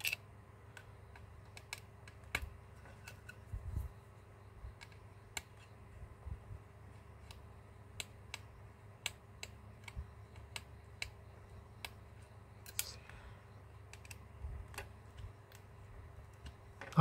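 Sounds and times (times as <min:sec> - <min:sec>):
fingers tapping phone parts: 0:00.0 - 0:03.4, 0:04.7 - 0:05.8, 0:07.0 - 0:13.0, 0:13.7 - 0:17.0.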